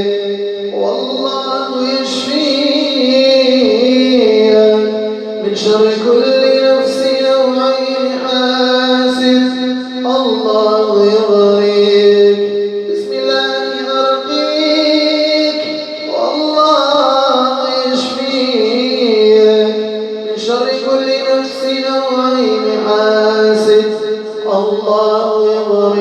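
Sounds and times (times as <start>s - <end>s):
layered wordless vocal music: 0.0s - 26.0s.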